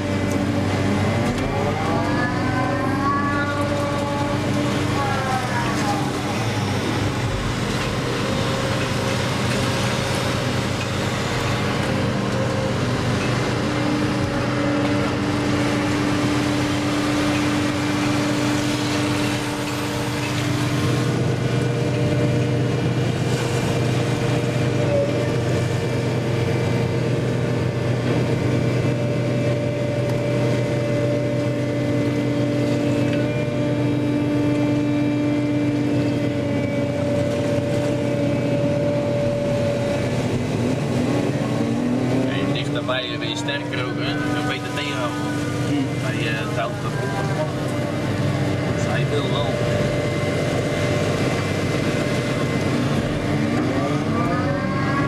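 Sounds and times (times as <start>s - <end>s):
excavator engine running: 0.0s - 55.0s
hydraulic whine: 0.0s - 55.0s.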